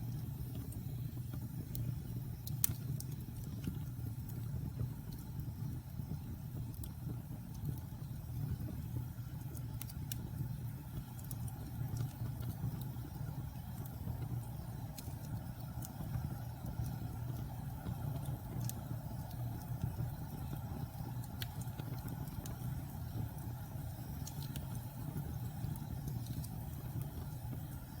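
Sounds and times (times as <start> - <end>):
fire crackling and popping: 0.0 - 28.0
low fire rumble: 0.0 - 28.0.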